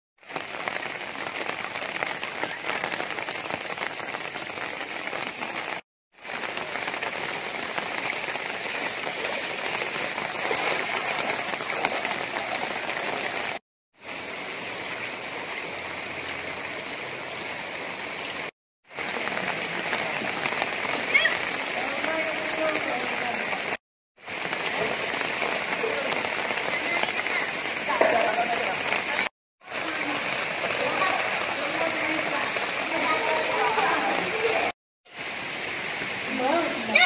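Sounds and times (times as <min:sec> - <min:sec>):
steady rain falling: 0:00.2 - 0:37.0.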